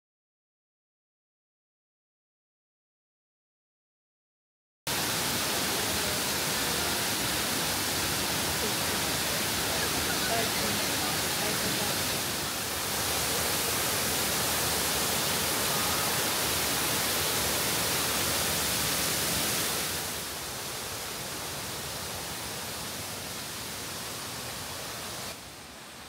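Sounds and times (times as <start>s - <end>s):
waterfall rushing: 4.9s - 26.0s.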